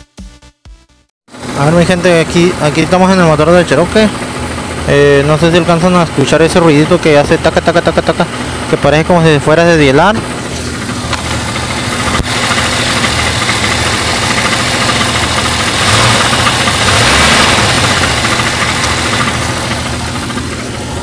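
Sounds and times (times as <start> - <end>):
car engine idling: 1.3 - 21.0
rapid engine ticking: 1.3 - 21.0.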